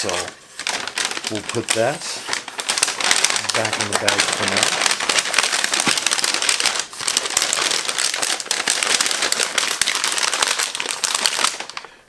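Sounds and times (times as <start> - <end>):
bag crinkling and rustling: 0.0 - 12.0.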